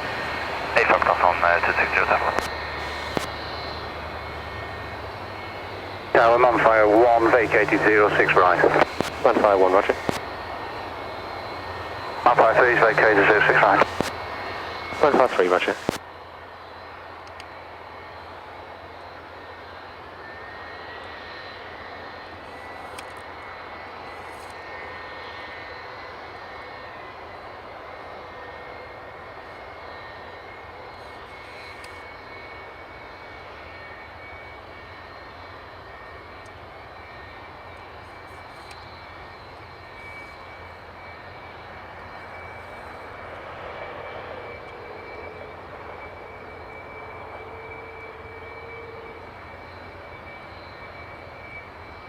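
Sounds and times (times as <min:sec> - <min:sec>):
jet engine idling: 0:00.0 - 0:52.0.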